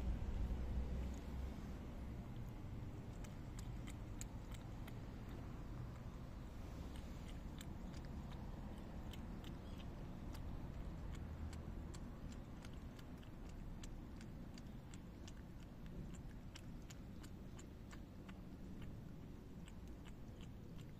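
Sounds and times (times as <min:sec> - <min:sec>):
low background rumble: 0:00.0 - 0:20.9
cat lapping milk: 0:00.6 - 0:20.9.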